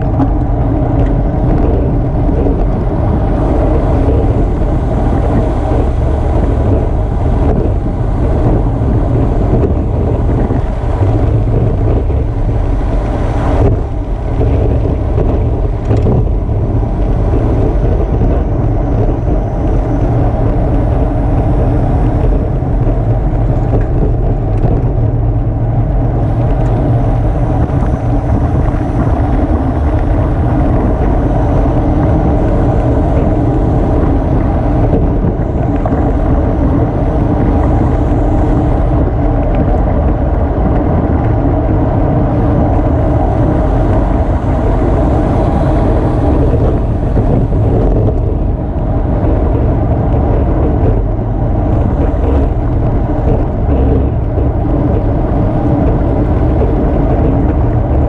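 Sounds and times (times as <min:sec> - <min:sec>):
tyre and road noise: 0:00.0 - 0:58.0
wind rush on microphone: 0:00.0 - 0:58.0.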